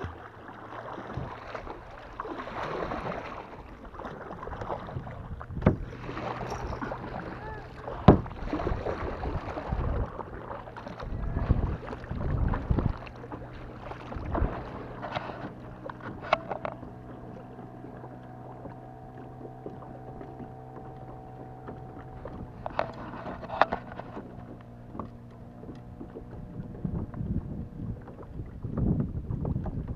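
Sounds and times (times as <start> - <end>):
low hum: 0.0 - 29.9
paddle strokes splashing: 0.0 - 29.9
water lapping: 0.0 - 29.9.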